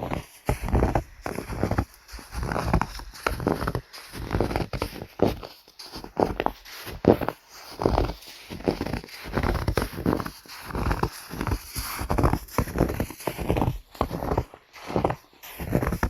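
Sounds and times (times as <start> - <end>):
footsteps crunching through snow: 0.0 - 16.0.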